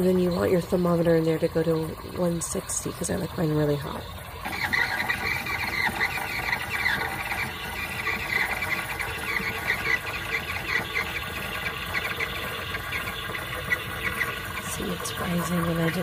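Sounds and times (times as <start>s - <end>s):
milk frothing squeals: 0.0s - 16.0s.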